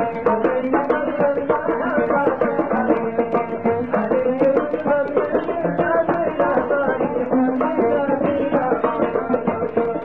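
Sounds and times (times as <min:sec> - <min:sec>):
folk music melody: 0:00.0 - 0:10.0
quick drum beat: 0:00.0 - 0:10.0.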